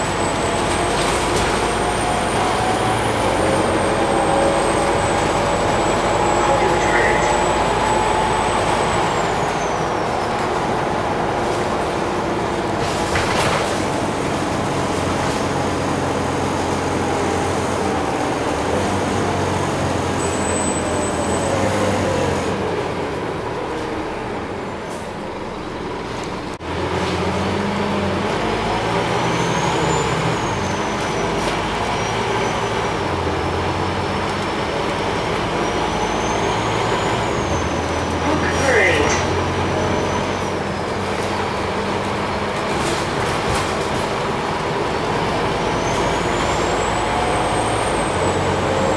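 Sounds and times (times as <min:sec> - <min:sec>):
bus engine with falling whine: 0:00.0 - 0:48.9.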